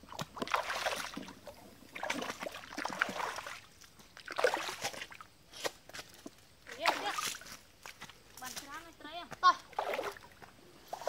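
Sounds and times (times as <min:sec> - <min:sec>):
feet splashing through water: 0:00.0 - 0:11.0.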